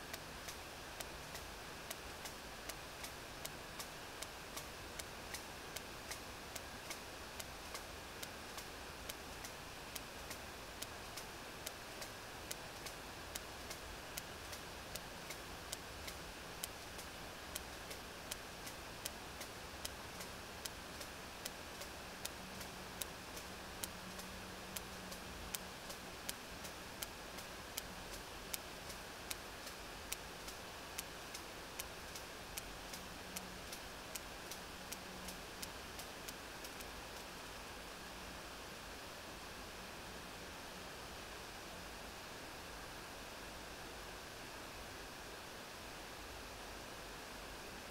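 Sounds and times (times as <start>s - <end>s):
background hiss: 0.0s - 47.9s.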